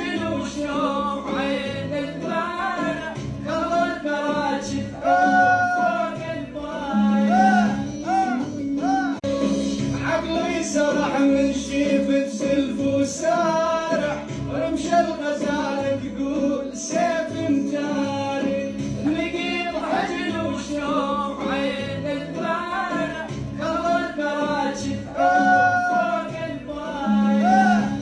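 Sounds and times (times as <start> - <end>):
instrumental accompaniment: 0.0 - 28.0
man singing: 0.0 - 28.0.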